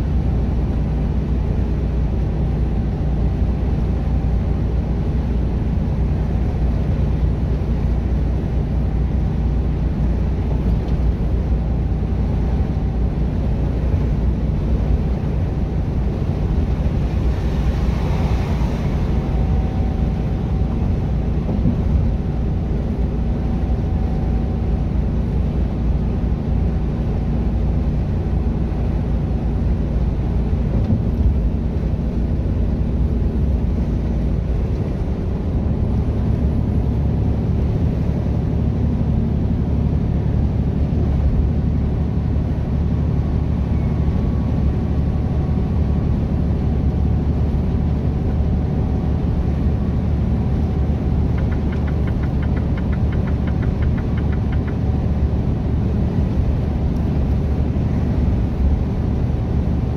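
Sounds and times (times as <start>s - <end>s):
truck engine and tyre drone: 0.0s - 59.9s.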